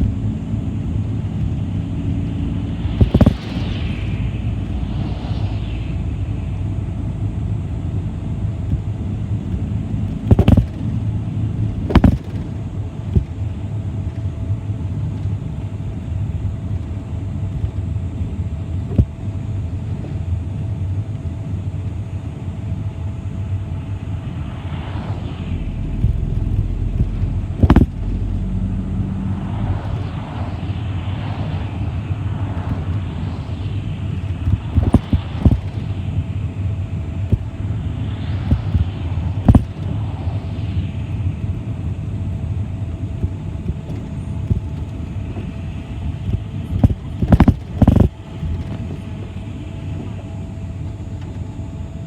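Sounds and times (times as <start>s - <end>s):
bus engine and road rumble: 0.0s - 51.9s
faint steady whine: 0.0s - 52.0s.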